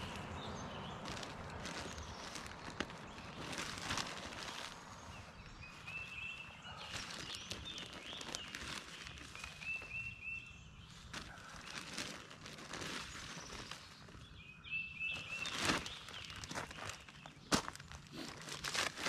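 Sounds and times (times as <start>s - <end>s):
rustles and scrapes of garden work: 0.0s - 14.4s, 15.0s - 19.0s
bird chirping: 0.0s - 17.8s.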